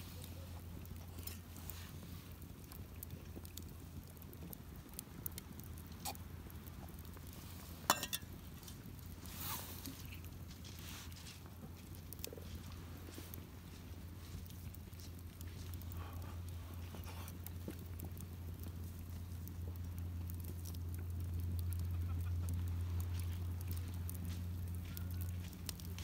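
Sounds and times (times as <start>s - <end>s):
campfire crackling: 0.0s - 26.0s
steady low hum: 0.0s - 26.0s.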